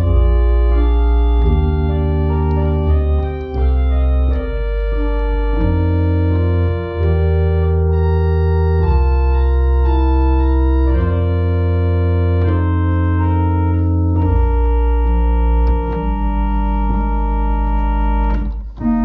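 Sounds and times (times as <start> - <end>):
pipe organ chords: 0.0 - 19.0.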